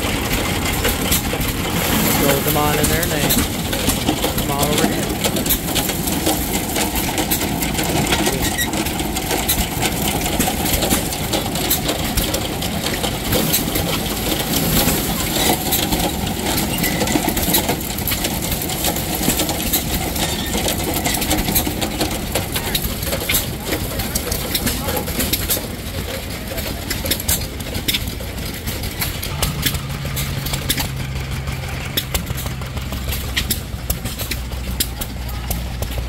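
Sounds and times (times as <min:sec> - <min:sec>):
corn sheller clattering: 0:00.0 - 0:36.0.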